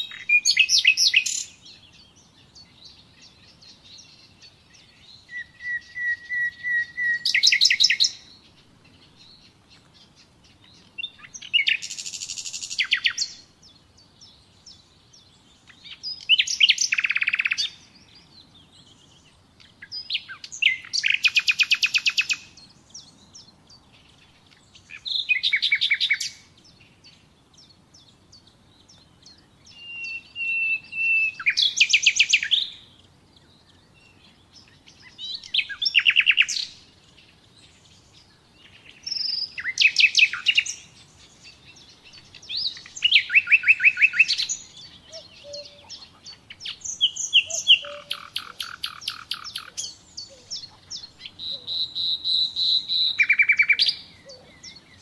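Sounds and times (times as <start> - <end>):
nightingale singing: 0.0 - 55.0.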